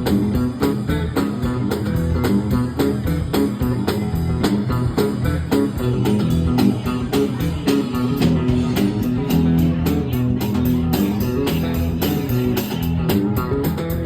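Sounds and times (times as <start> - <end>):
bass guitar: 0.0 - 14.0
drum beat: 0.0 - 14.0
electric guitar: 0.0 - 14.0.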